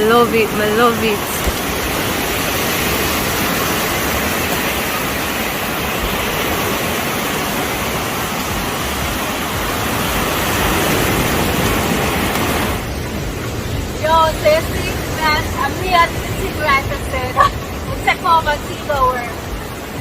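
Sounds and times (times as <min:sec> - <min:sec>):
beach surf rushing: 0:00.0 - 0:20.0.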